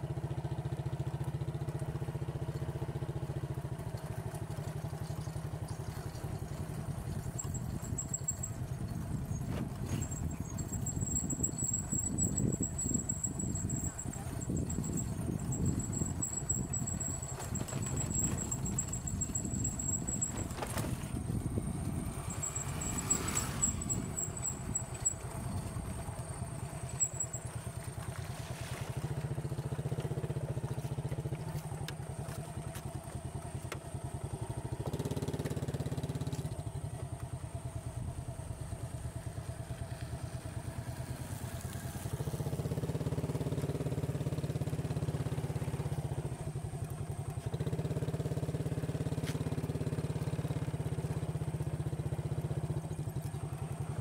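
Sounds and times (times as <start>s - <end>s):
small motorcycle engine: 0.0s - 54.0s.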